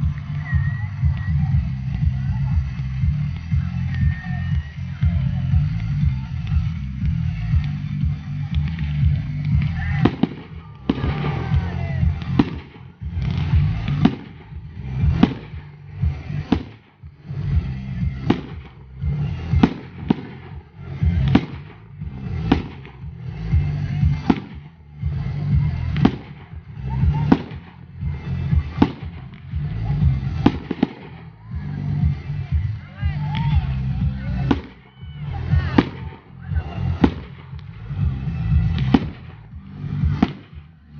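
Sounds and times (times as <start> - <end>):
background music: 0.0 - 40.9
fireworks bursting with sharp bangs: 0.0 - 40.9.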